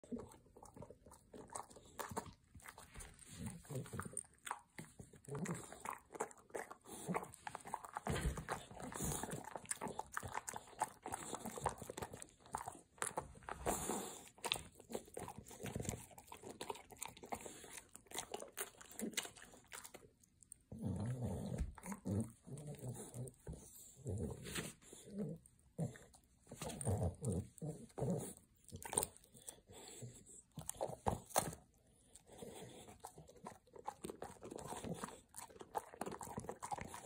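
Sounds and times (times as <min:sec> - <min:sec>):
dog crunching a biscuit: 0:00.0 - 0:23.3, 0:26.5 - 0:29.6, 0:30.5 - 0:37.0.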